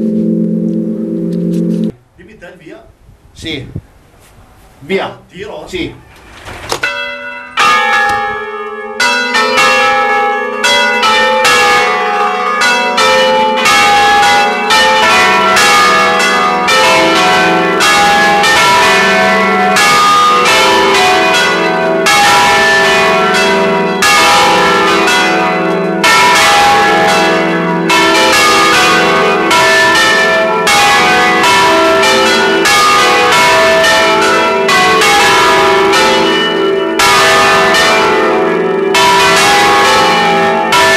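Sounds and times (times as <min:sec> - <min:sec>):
church bells ringing: 0:00.0 - 0:01.9, 0:06.8 - 0:40.9.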